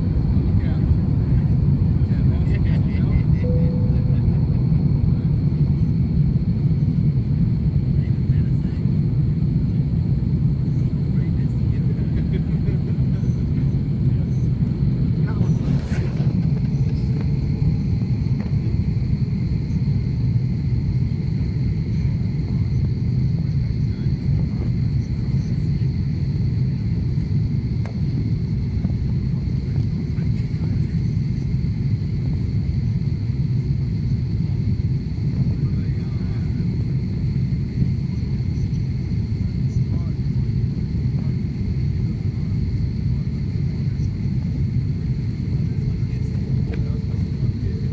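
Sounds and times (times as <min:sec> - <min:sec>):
faint high whine: 0:00.0 - 0:12.1, 0:12.7 - 0:47.9
airliner low rumble: 0:00.0 - 0:47.9.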